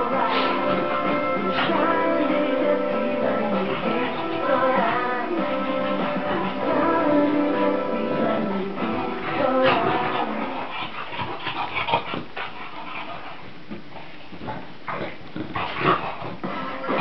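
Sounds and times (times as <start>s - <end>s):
dogs play-fighting: 0.0s - 17.0s.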